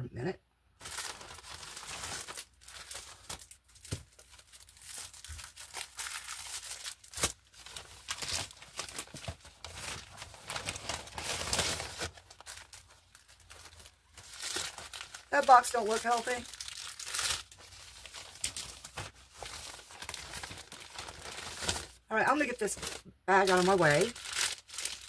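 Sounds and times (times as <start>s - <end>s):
plastic packaging crinkling: 0.8s - 25.0s.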